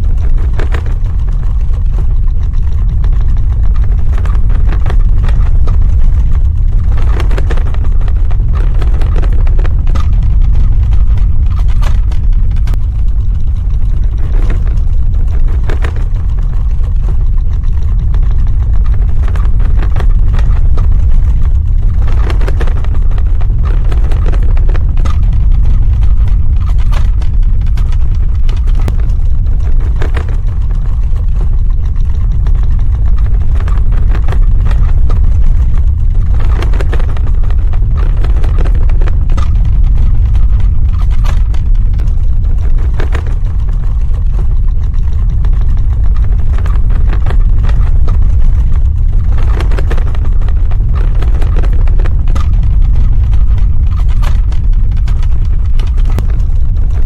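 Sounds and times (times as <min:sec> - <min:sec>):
crackling and rattling: 0:00.0 - 0:57.0
deep ground rumble: 0:00.0 - 0:57.0.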